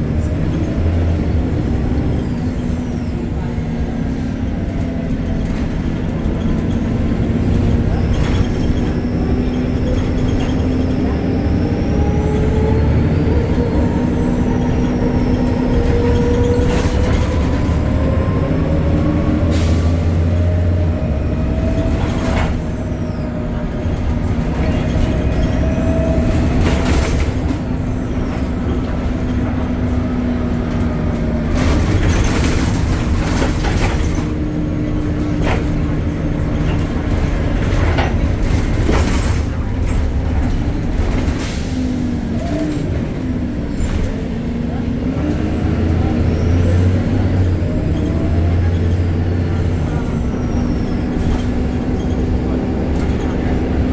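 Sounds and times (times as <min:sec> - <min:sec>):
bus diesel engine running: 0:00.0 - 0:53.9.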